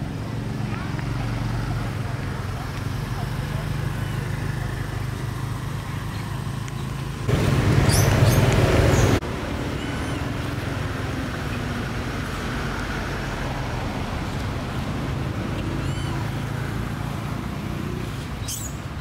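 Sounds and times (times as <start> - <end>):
distant motor engine humming: 0.0 - 18.4.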